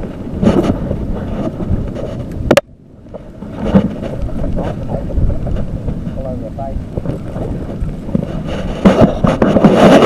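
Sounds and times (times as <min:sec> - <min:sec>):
water and boat noise: 0:00.0 - 0:10.0
wind buffeting microphone: 0:00.0 - 0:10.0.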